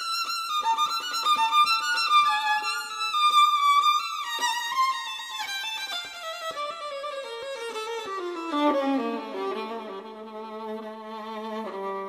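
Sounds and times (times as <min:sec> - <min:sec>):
slow violin melody: 0:00.0 - 0:12.0.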